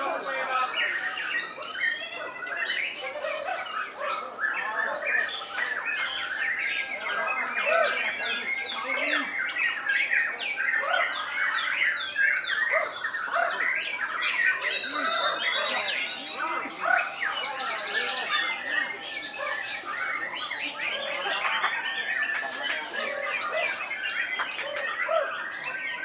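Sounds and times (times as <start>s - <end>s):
birds singing and chattering: 0.0s - 26.0s.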